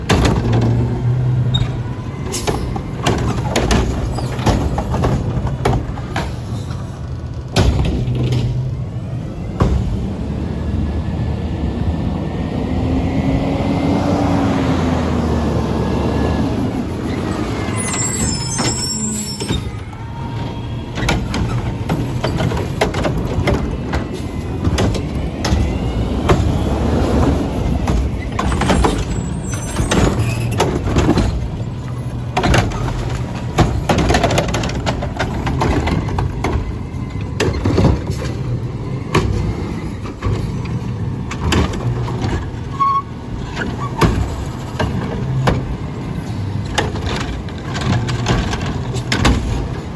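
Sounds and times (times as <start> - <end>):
metal clanks and bangs: 0.0 - 8.9, 16.6 - 49.9
diesel engine running: 0.0 - 49.9.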